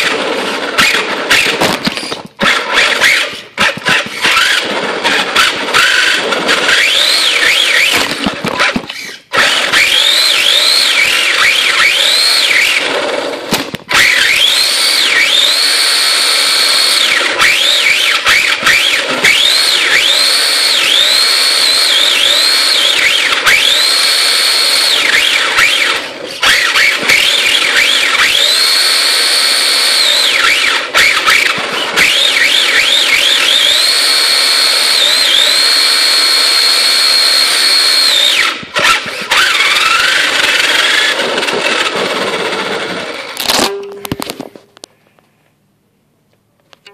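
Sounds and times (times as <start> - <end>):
electric motor high whine: 0.0 - 13.3, 13.9 - 43.4.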